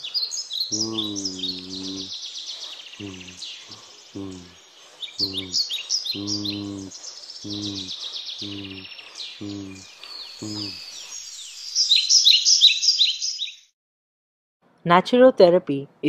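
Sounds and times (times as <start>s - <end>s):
birds singing: 0.0s - 13.7s.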